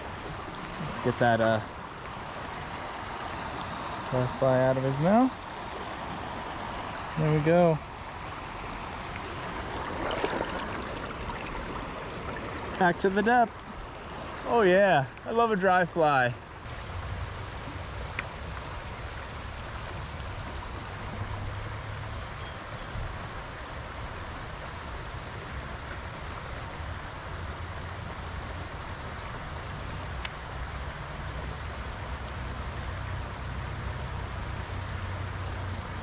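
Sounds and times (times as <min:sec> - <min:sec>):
creek water flowing over stones: 0:00.0 - 0:36.0.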